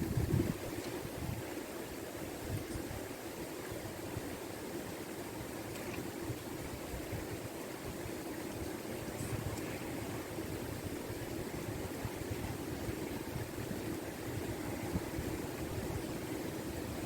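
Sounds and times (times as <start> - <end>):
river in flood rushing: 0.0 - 17.0.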